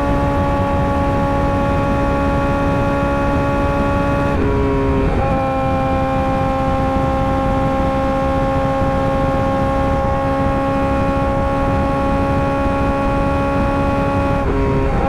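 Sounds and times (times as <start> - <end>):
motorcycle engine revving high: 0.0 - 15.0.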